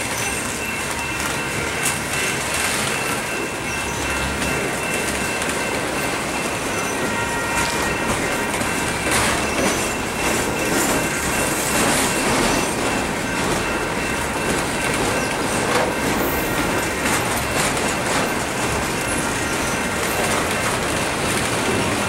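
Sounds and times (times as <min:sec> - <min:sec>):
freight train wheel noise: 0:00.0 - 0:22.0.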